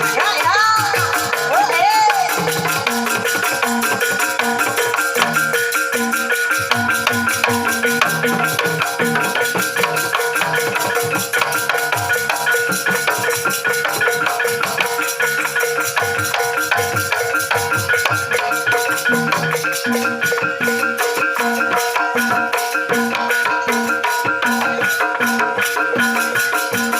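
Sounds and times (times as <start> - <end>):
hand drum beats: 0.0 - 26.9
struck tuned percussion ringing: 0.0 - 26.9.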